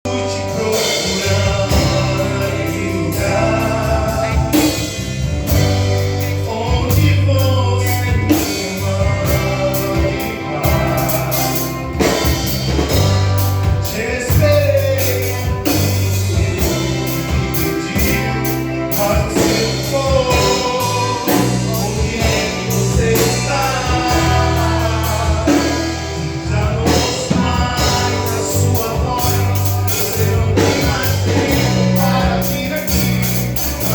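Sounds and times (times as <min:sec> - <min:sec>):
bass line: 0:00.0 - 0:33.9
drums: 0:00.0 - 0:33.9
gospel band singing: 0:00.0 - 0:33.9.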